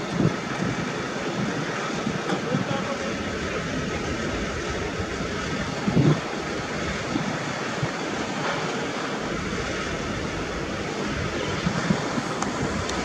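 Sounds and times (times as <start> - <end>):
distant jet engine roar: 0.0 - 13.0
wind buffeting the microphone: 0.0 - 13.0.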